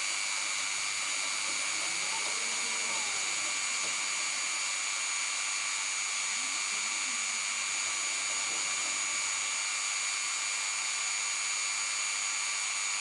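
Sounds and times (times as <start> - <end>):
rotary tool milling metal: 0.0 - 13.0.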